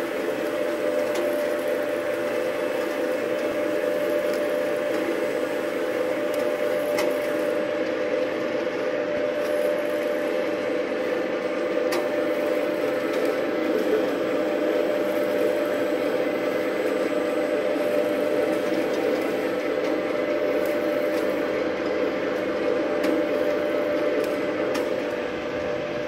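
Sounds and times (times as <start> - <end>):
press machine motor drone: 0.0 - 26.0.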